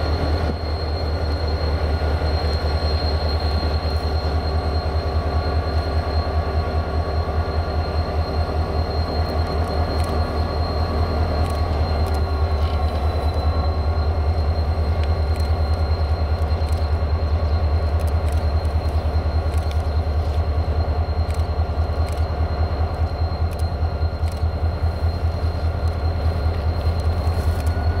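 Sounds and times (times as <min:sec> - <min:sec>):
diesel locomotive engine throbbing: 0:00.0 - 0:28.0
thin high whine: 0:00.0 - 0:28.0.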